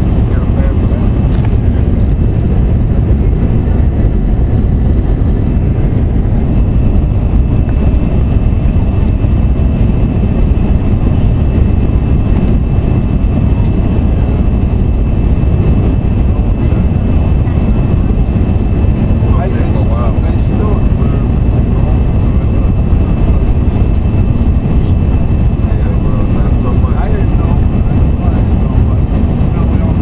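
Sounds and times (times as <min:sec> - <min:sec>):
jet cabin roar: 0:00.0 - 0:30.0.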